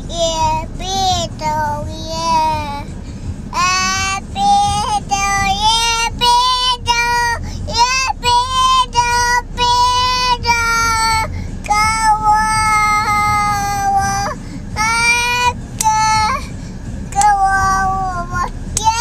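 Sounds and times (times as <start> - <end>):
toddler girl singing: 0.0 - 2.9, 3.5 - 16.5, 17.1 - 19.0.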